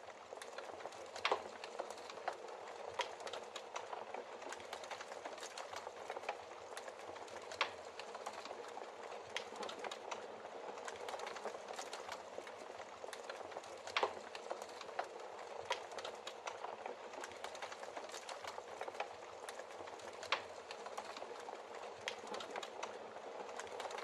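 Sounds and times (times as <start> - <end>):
burning logs crackling and popping: 0.0 - 24.0.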